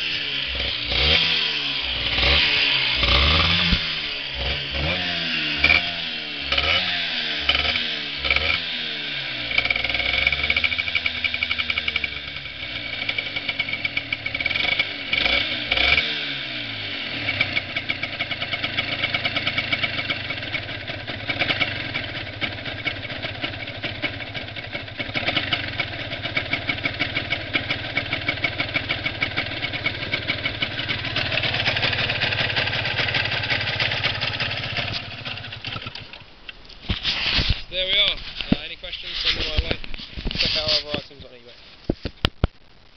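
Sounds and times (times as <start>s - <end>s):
two-stroke motorcycle engine revving: 0.0s - 36.2s.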